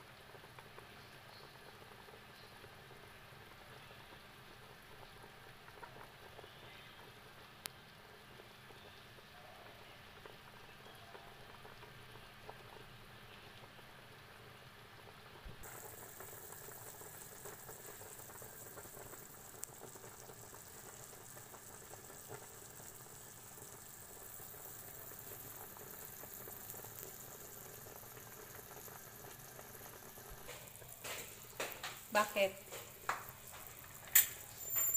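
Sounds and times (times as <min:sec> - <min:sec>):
broth boiling in a pot: 0:00.0 - 0:34.9.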